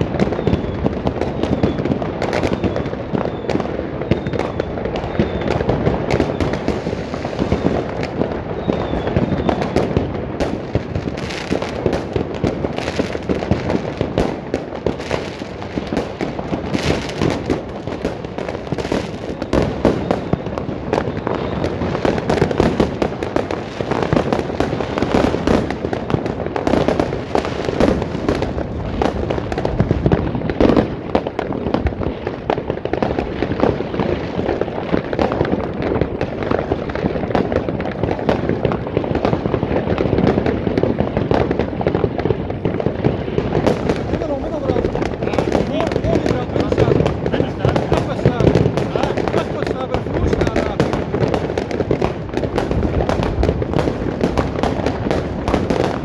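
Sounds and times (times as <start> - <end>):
fireworks banging and crackling: 0.0 - 56.0.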